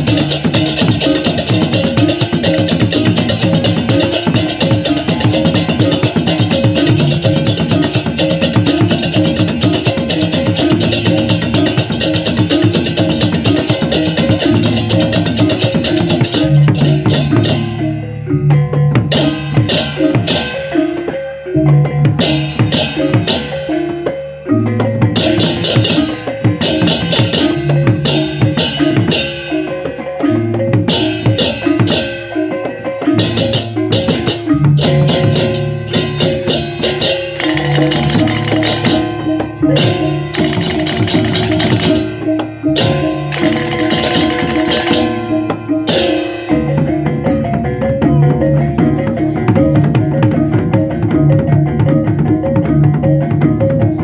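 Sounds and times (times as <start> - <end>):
drums: 0.0 - 54.0
hand cymbals clashing: 0.0 - 54.0
hanging gongs ringing: 0.0 - 54.0.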